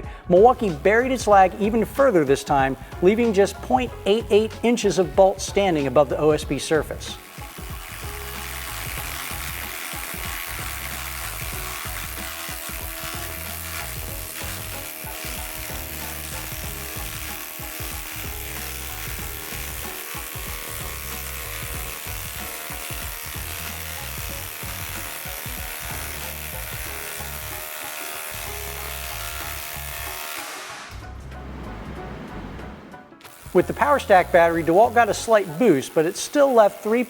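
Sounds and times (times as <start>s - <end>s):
background music with beat: 0.0s - 35.9s.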